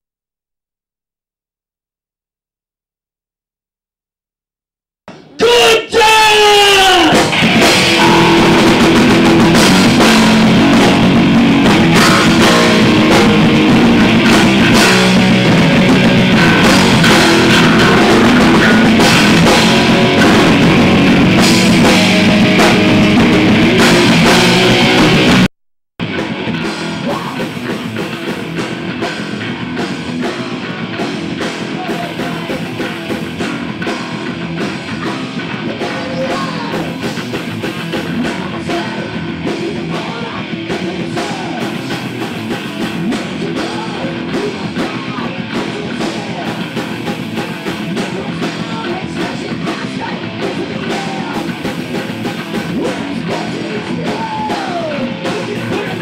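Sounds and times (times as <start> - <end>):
heavy metal band playing: 5.4 - 56.0.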